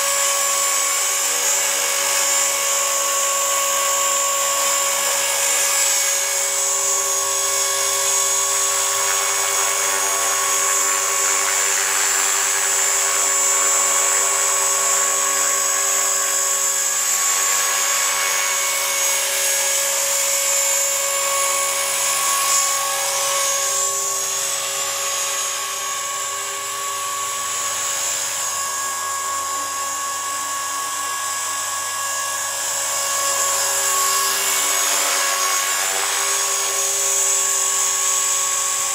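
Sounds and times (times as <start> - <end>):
rc helicopter motor whine: 0.0 - 38.9
rotor blades rushing: 0.0 - 38.9.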